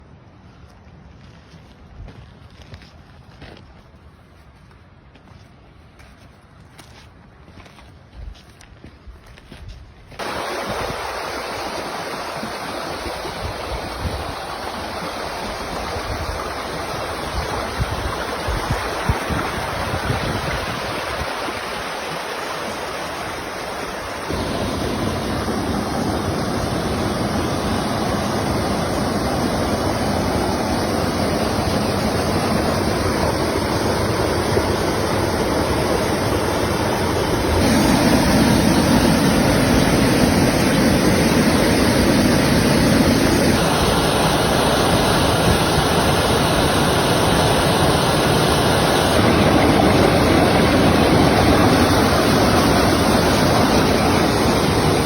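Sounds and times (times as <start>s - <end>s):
flowing water rushing: 10.1s - 55.0s.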